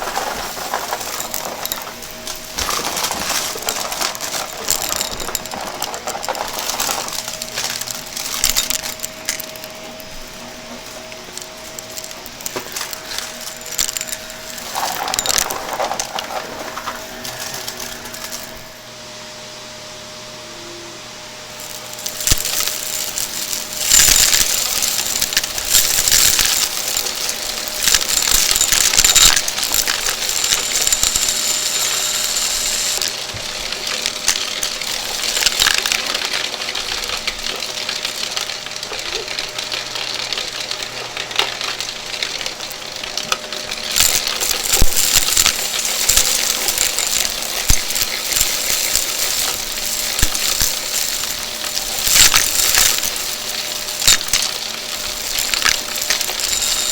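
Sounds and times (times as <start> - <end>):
debris crackling through vacuum: 0.0 - 18.8, 21.5 - 56.9
vacuum cleaner motor hum: 0.0 - 56.9.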